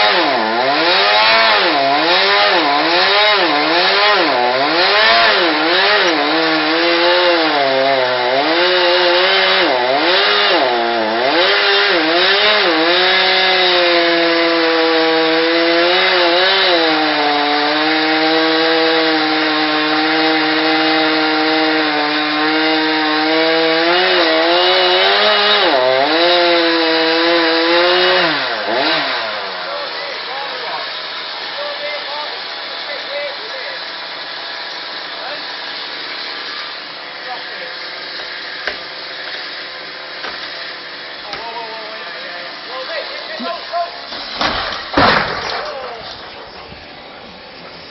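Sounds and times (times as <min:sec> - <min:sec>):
chainsaw cutting tree trunk: 0:00.0 - 0:47.9.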